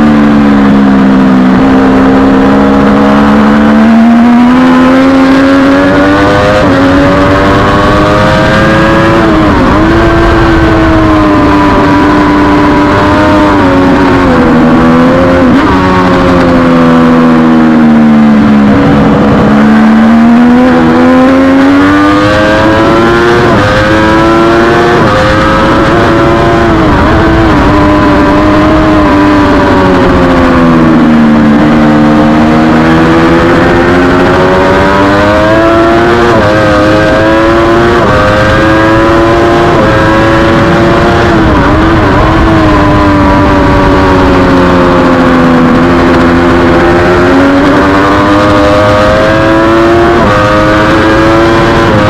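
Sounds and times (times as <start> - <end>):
race motorcycle engine revving: 0.0 - 52.0
wind noise: 0.0 - 52.0.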